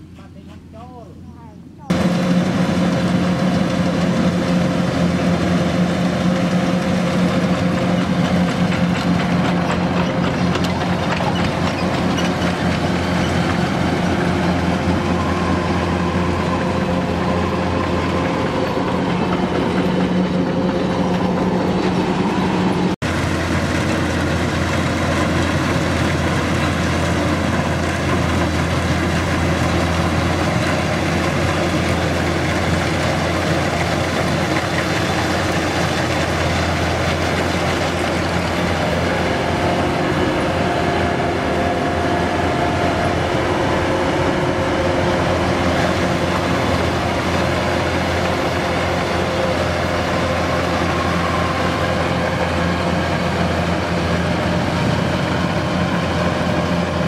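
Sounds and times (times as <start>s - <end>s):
combine harvester engine drone: 0.0s - 57.0s
mechanical din of threshing machinery: 1.9s - 57.0s.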